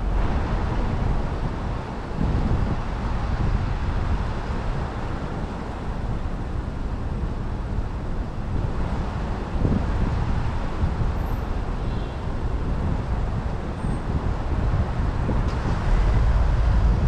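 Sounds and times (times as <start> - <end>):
road traffic rumble: 0.0 - 17.0
wind gusts on microphone: 0.0 - 17.0.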